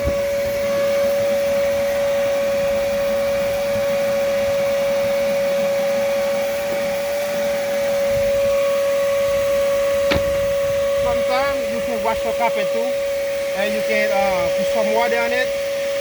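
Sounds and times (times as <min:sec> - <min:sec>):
vacuum cleaner motor running: 0:00.0 - 0:16.0.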